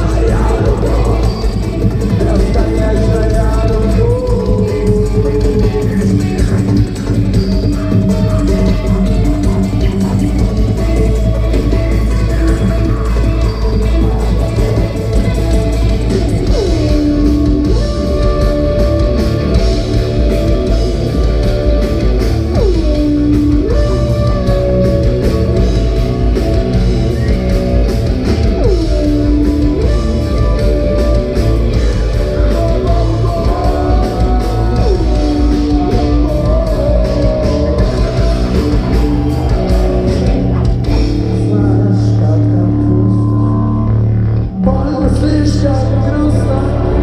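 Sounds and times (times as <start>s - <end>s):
live rock band playing: 0.0s - 47.0s
sliding guitar melodic line: 0.0s - 47.0s.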